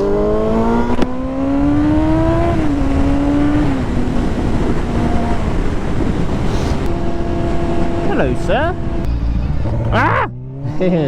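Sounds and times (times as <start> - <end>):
wind rush: 0.0 - 10.1
motorcycle engine accelerating: 0.0 - 11.0.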